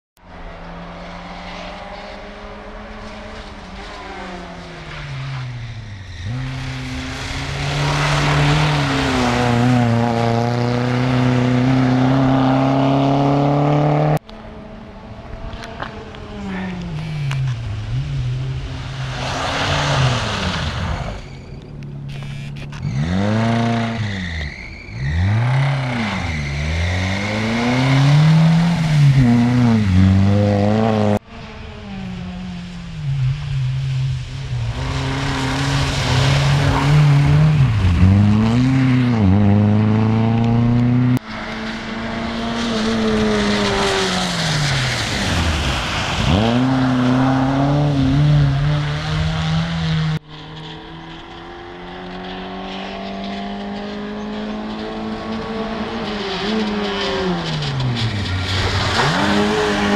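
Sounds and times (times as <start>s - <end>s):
rally car engine revving: 0.3s - 21.4s, 22.0s - 59.9s.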